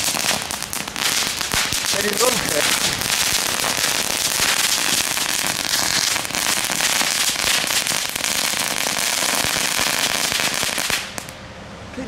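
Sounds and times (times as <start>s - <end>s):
firework crackling and fizzing: 0.0s - 11.4s.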